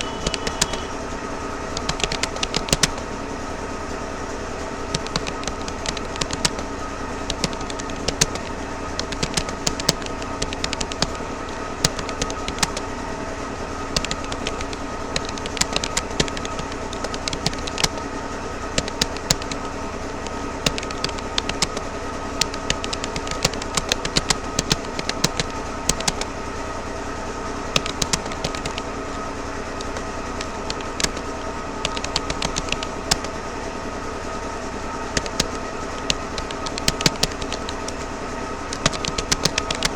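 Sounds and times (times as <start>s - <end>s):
keyboard keystroke clicks: 0.0s - 1.0s, 1.7s - 3.1s, 4.9s - 12.9s, 13.9s - 18.1s, 18.7s - 26.3s, 27.7s - 33.4s, 35.1s - 38.1s, 38.7s - 39.9s
steady hum with held tones: 0.0s - 39.9s.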